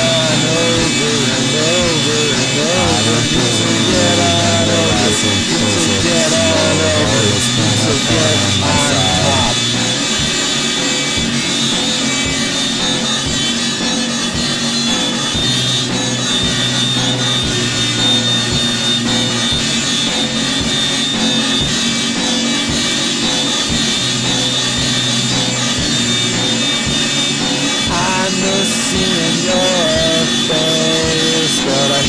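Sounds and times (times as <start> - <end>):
instrumental rock music: 0.0 - 32.0.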